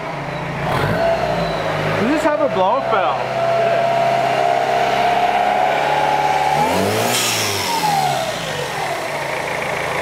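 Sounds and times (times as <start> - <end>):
diesel engine revving down: 0.0 - 10.0.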